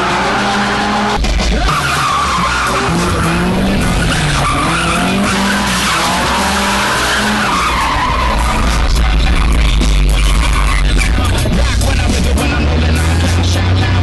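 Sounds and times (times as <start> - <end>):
car engine revving: 0.0 - 14.0
tyres skidding: 0.0 - 14.0.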